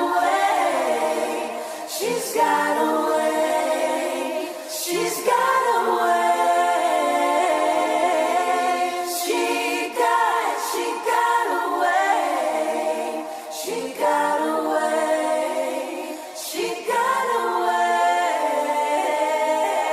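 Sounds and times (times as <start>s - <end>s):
a cappella vocal harmonies: 0.0s - 19.9s.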